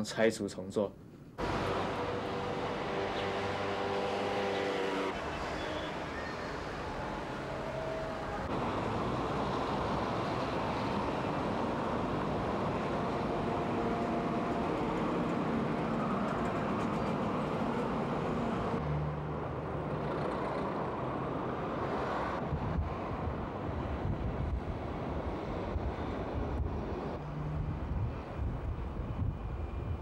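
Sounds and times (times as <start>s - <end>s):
motor vehicles running: 1.4s - 30.0s.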